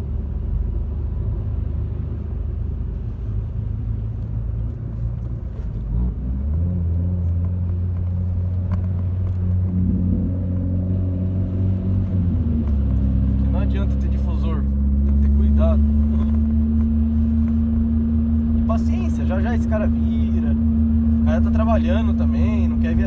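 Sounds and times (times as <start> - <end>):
car engine from inside cabin: 0.0 - 23.0
road noise: 0.0 - 23.0.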